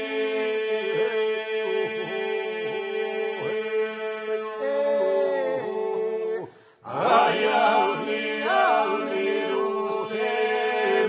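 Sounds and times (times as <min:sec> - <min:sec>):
solo voices singing melody: 0:00.0 - 0:11.0.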